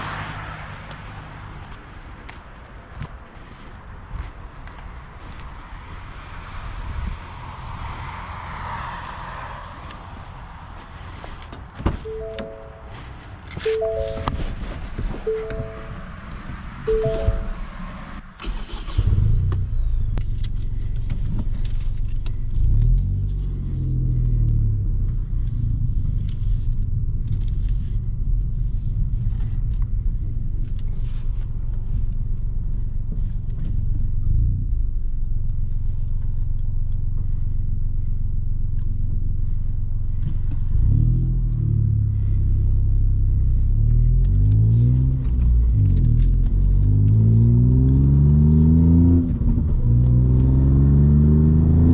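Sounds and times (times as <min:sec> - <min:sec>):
car engine rumbling and revving: 0:00.0 - 0:51.9.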